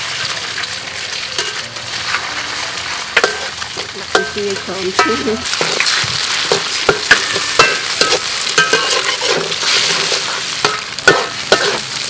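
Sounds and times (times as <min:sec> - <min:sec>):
food sizzling in a pan: 0:00.0 - 0:12.0
metal spatula scraping a pan: 0:00.2 - 0:12.0.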